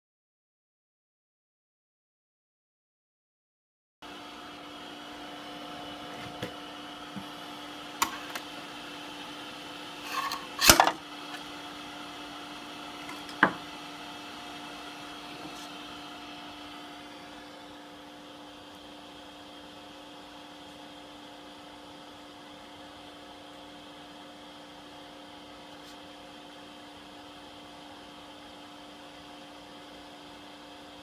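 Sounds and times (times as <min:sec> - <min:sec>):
mechanical hum: 0:04.0 - 0:31.0.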